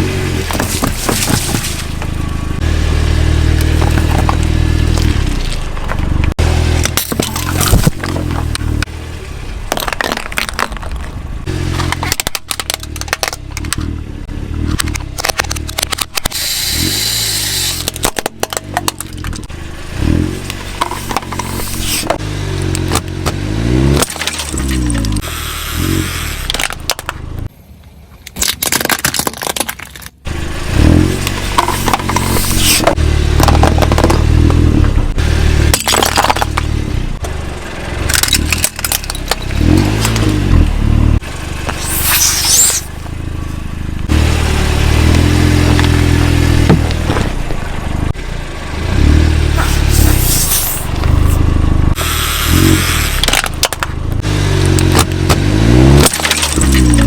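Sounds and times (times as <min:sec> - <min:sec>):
car engine revving: 0:00.0 - 0:27.5, 0:30.2 - 0:57.0
objects crunching under tyres: 0:00.0 - 0:57.0.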